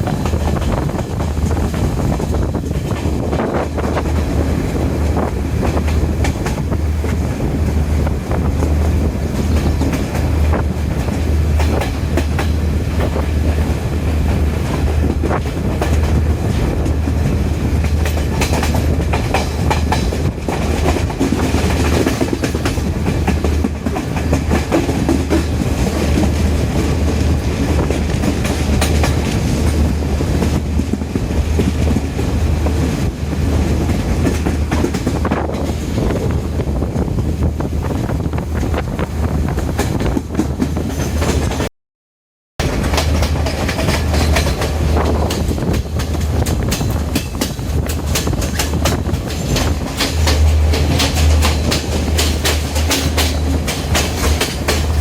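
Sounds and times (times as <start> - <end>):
diesel train engine drone: 0.0 - 41.7, 42.6 - 55.0
train wheels clattering over rails: 0.0 - 41.7, 42.6 - 55.0.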